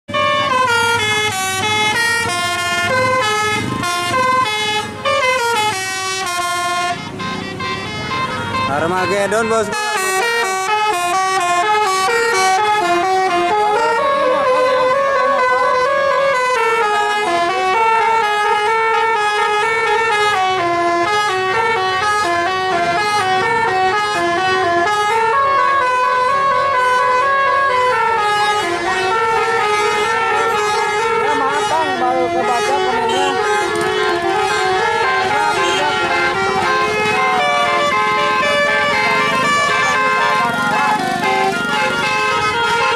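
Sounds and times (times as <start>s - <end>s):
multi-tone bus horn melody: 0.1s - 42.9s.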